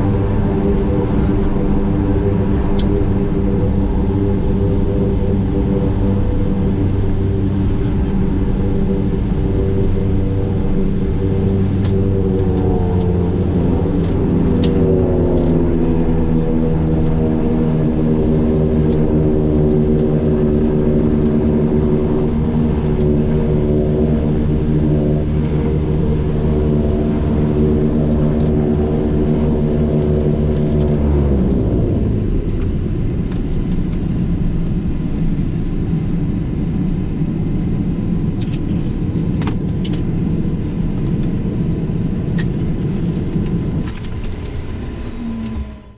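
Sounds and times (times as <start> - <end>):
turboprop engines droning: 0.0 - 45.9.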